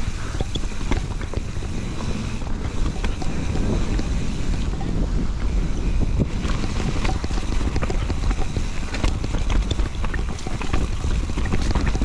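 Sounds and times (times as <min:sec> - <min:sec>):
bike rattling over ground: 0:00.0 - 0:12.0
wind buffeting microphone: 0:00.0 - 0:12.0.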